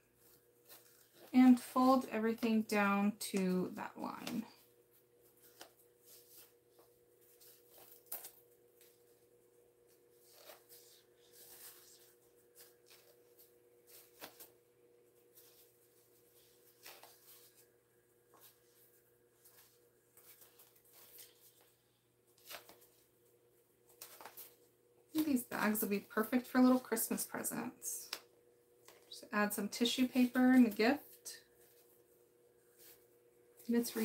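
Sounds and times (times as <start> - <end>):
fabric and tape rustling: 0.0 - 34.0
faint steady hum: 0.0 - 34.0.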